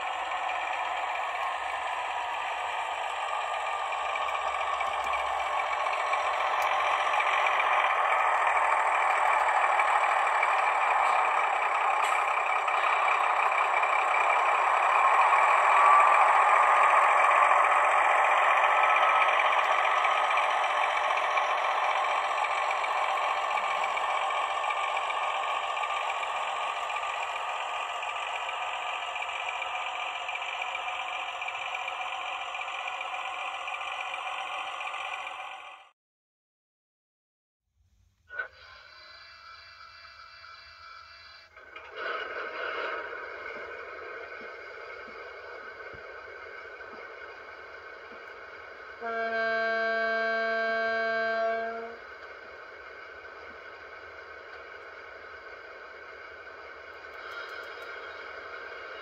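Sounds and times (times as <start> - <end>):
model train motor whir: 0.0 - 35.8, 38.3 - 59.0
wheels on rails: 0.0 - 35.9, 38.3 - 59.0.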